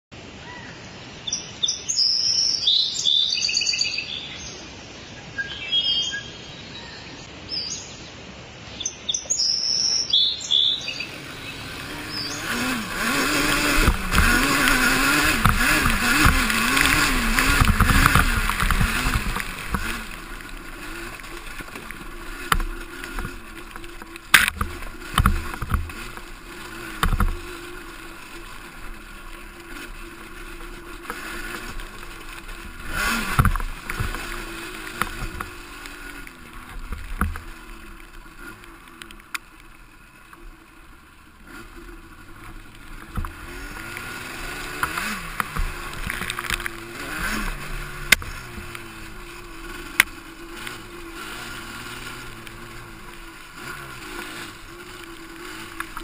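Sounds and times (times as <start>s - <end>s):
birds chirping: 0.4s - 56.0s
quad engine revving: 10.5s - 56.0s.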